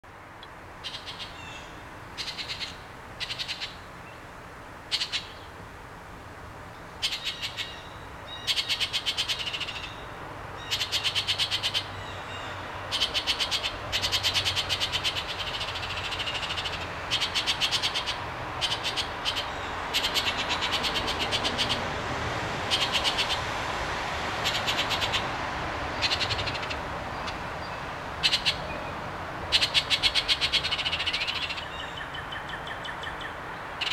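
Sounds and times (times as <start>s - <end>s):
steady background hiss: 0.1s - 33.9s
birds calling in rattling trills: 0.8s - 4.2s, 4.9s - 5.5s, 7.0s - 22.0s, 22.6s - 23.6s, 24.3s - 33.9s.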